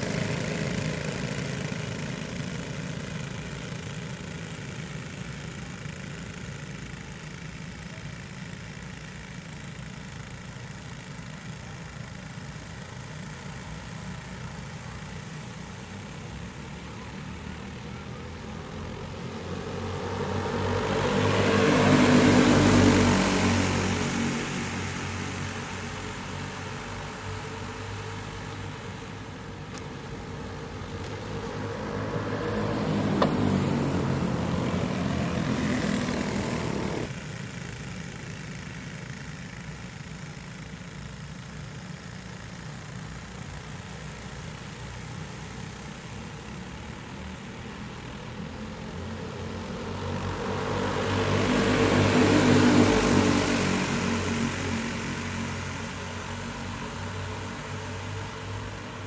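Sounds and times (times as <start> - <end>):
go-kart engines droning: 0.0 - 59.0.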